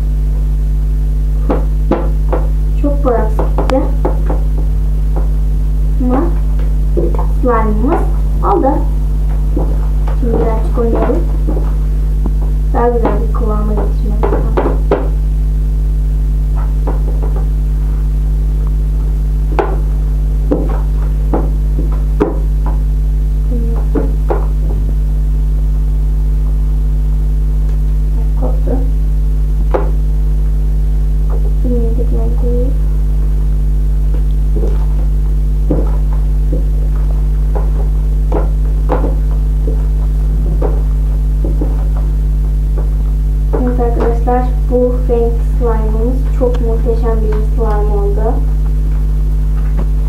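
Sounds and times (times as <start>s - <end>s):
loud steady hum: 0.0s - 50.0s.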